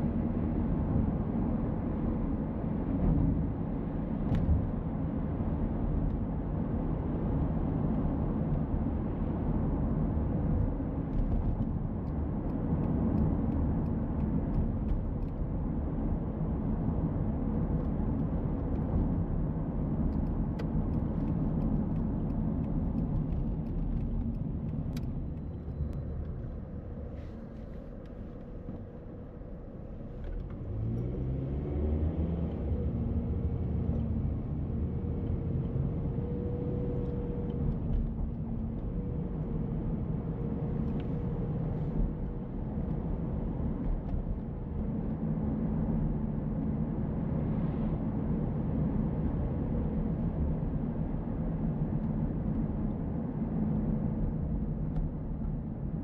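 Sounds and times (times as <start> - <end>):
road and engine noise: 0.0 - 56.0.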